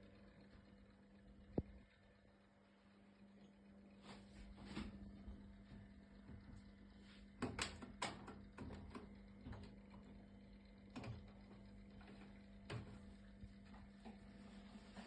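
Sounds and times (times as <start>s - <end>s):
boiler ticking and knocking: 0.0s - 3.8s, 4.8s - 14.4s
boiler low hum: 0.0s - 15.0s.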